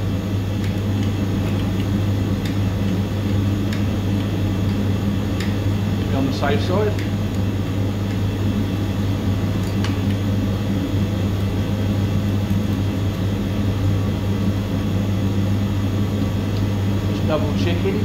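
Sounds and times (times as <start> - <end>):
machine humming and whirring: 0.0 - 18.0.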